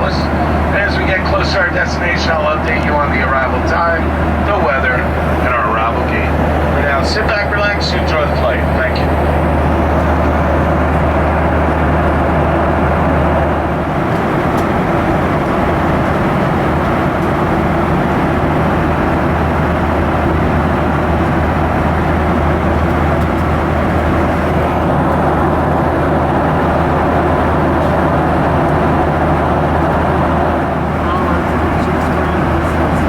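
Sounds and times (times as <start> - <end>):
airplane engine drone: 0.0 - 33.0.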